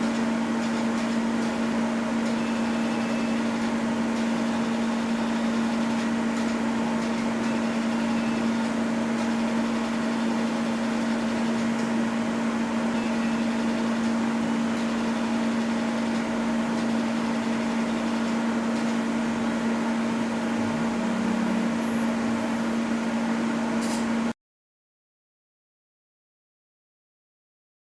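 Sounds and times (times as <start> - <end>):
welding machine low hum: 0.0 - 24.4.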